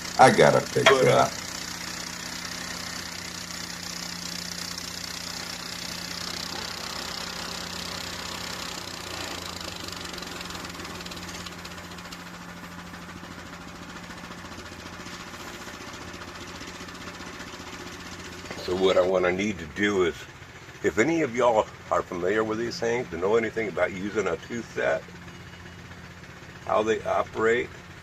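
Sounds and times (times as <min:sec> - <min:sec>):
gasoline engine idling: 0:00.0 - 0:28.0.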